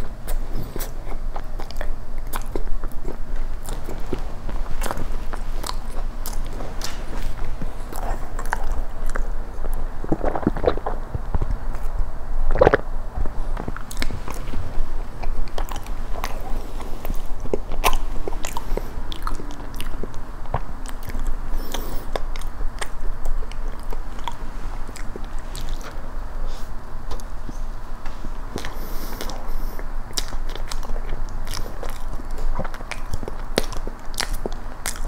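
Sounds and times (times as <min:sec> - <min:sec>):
person chewing cake: 0:00.0 - 0:35.0.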